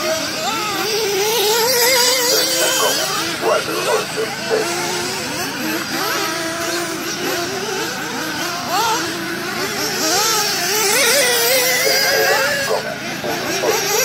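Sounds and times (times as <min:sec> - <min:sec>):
radio-controlled car engines racing: 0:00.0 - 0:14.0.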